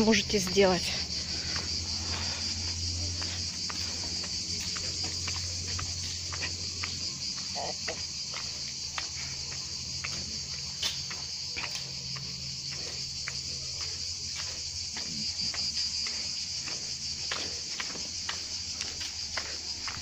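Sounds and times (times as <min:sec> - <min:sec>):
cicadas singing: 0:00.0 - 0:20.0
footsteps on lane: 0:00.2 - 0:20.0.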